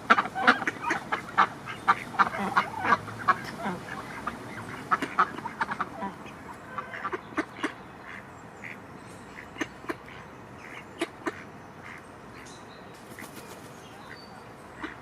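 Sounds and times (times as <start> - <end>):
ducks quacking: 0.0 - 12.5, 14.0 - 15.0.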